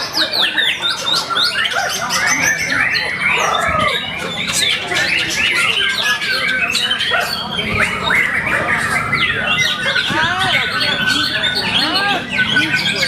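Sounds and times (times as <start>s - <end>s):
songbirds whistling and trilling: 0.0s - 13.0s.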